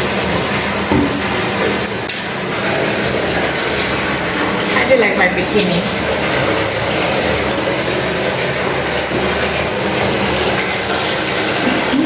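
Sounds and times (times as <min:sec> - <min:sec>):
water running from tap into bathtub: 0:00.0 - 0:12.0.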